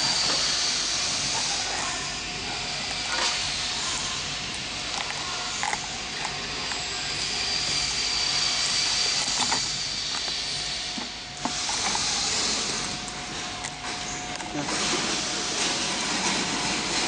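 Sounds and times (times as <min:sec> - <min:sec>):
cutting machine hissing: 0:00.0 - 0:17.0.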